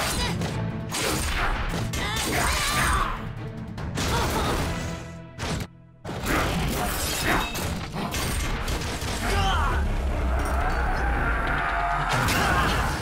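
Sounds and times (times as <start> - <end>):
loud background music: 0.0 - 13.0.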